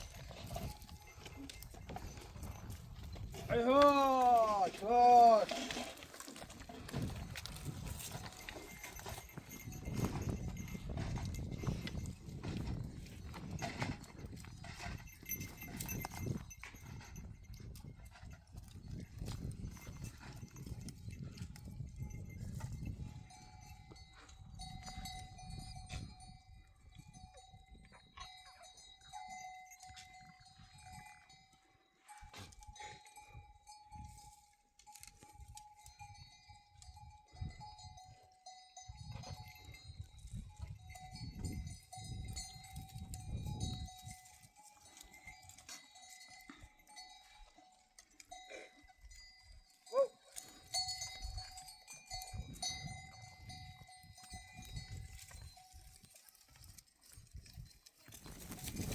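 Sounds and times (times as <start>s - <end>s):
animal neck bells clanking: 0.0s - 58.9s.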